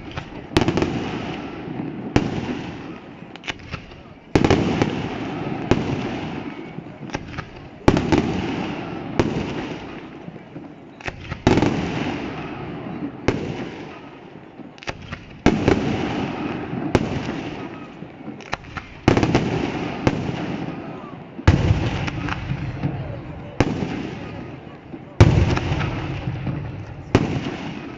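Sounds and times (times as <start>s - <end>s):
firework pops and crackles: 0.0s - 27.9s
fireworks bangs with echo: 0.0s - 27.9s.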